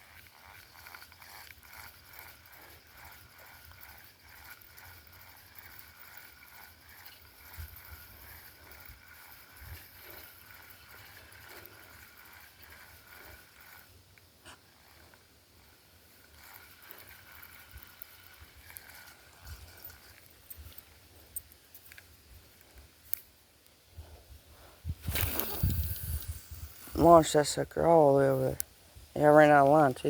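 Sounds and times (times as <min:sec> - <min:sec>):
fishing reel clicking: 0:00.0 - 0:22.1, 0:25.1 - 0:30.0.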